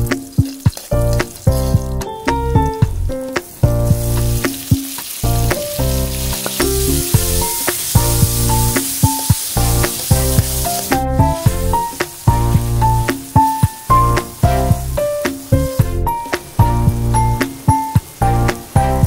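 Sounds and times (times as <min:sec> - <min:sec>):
background music: 0:00.0 - 0:19.0
vegetables sizzling in hot oil: 0:00.0 - 0:19.0.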